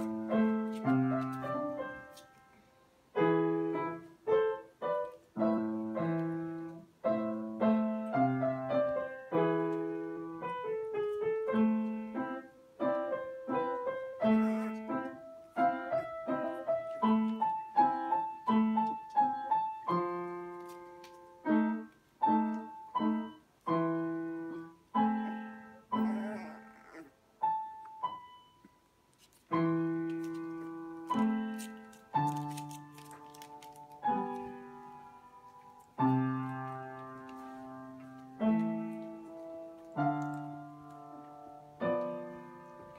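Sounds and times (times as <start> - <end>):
slow solo piano melody: 0.0 - 28.9, 29.5 - 42.9.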